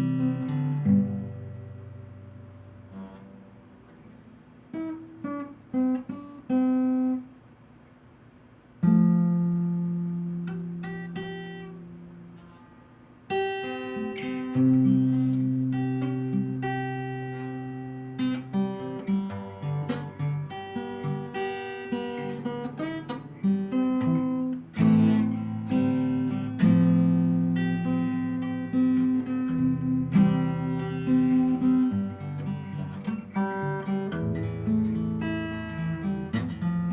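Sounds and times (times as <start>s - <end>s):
acoustic guitar chords: 0.0s - 36.9s.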